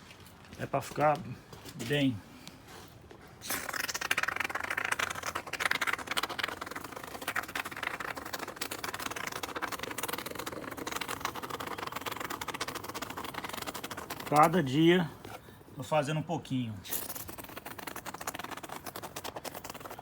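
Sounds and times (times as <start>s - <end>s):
spray foam crackling sputter: 3.4s - 20.0s.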